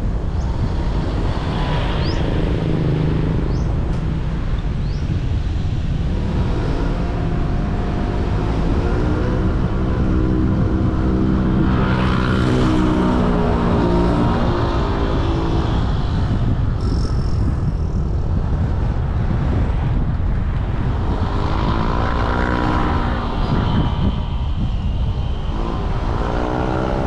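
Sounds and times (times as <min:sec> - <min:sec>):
road traffic rumble: 0:00.0 - 0:27.0
vehicle engines droning: 0:00.0 - 0:27.0.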